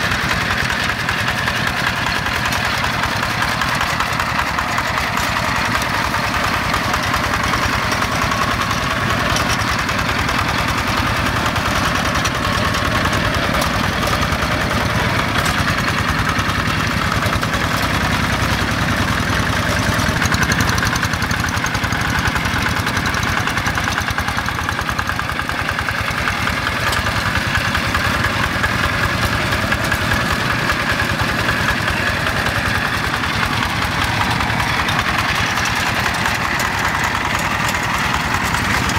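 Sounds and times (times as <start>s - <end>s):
single-cylinder diesel engine running: 0.0s - 38.9s.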